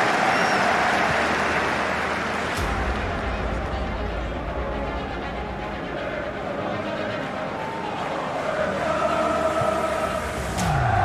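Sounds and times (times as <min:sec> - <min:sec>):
stadium crowd cheering: 0:00.0 - 0:11.0.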